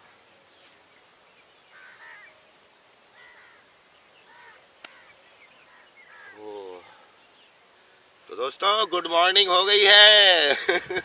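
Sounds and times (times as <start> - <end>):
faint distant bird calls: 0.0 - 10.3.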